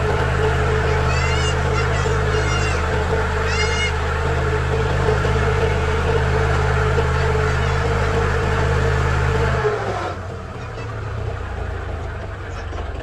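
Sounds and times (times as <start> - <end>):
diesel engine running: 0.0 - 13.0
steady mechanical whine: 0.0 - 13.0.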